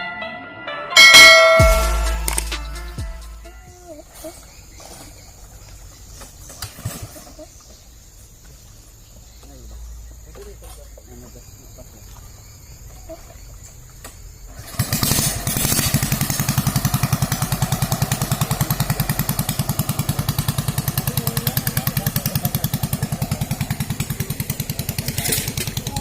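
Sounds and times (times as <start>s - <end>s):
motorcycle engine idling and revving: 1.4s - 26.0s.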